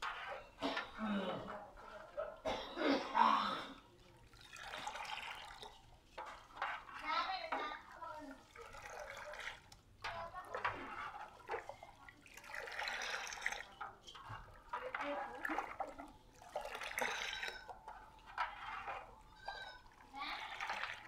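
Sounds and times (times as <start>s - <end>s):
milk sloshing in a pot: 0.0s - 21.0s.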